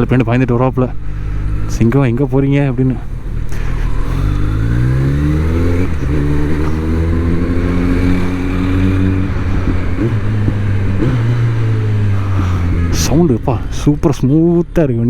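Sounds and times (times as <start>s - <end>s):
motorcycle engine accelerating: 0.0s - 14.8s
gear change: 0.0s - 15.0s.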